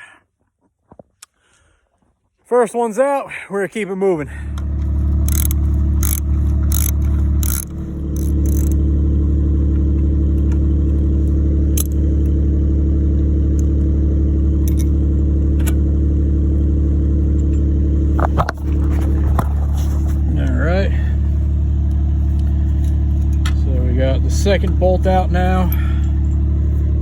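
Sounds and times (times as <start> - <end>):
engine droning steadily: 3.3 - 27.0.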